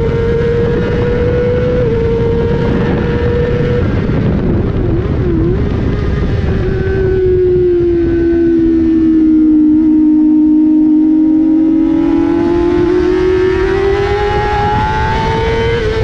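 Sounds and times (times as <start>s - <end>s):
motorcycle engine at high revs: 0.0s - 16.0s
wind rush: 0.0s - 16.0s.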